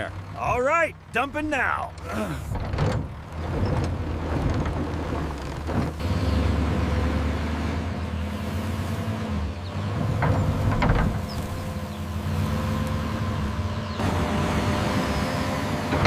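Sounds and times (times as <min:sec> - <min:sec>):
digging machine engine running: 0:00.0 - 0:16.0.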